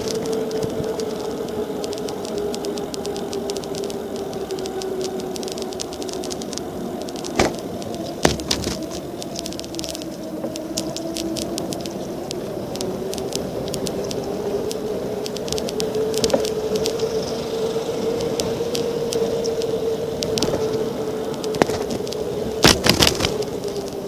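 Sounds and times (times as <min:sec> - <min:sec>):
bicycle rolling hum: 0:00.0 - 0:24.0
rapid fine ticking: 0:00.0 - 0:24.0.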